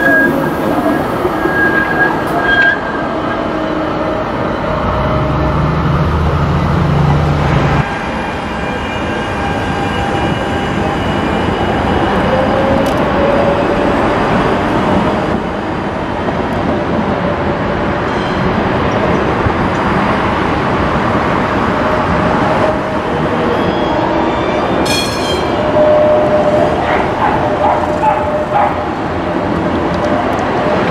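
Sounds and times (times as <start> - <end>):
tram wheels rumbling on rail: 0.0 - 30.9.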